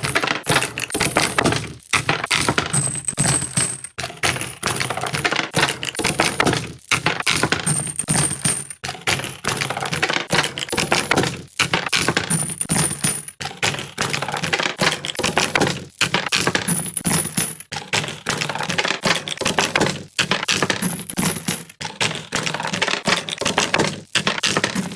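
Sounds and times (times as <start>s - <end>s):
metal cartridges pouring and clinking: 0.0s - 24.9s.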